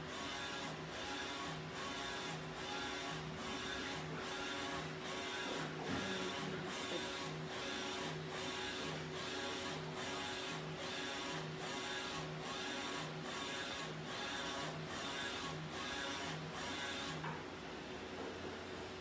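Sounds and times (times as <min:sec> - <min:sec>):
printer humming: 0:00.0 - 0:19.0.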